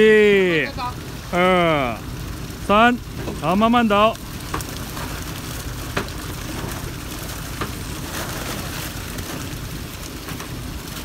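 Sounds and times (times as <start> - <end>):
low engine hum: 0.0 - 11.0
water pouring and splashing: 0.0 - 11.0.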